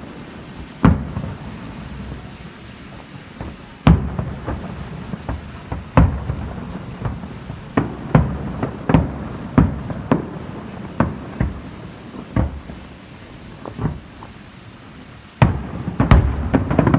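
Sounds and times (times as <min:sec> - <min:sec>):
firework shells booming: 0:00.5 - 0:14.4, 0:15.4 - 0:16.9.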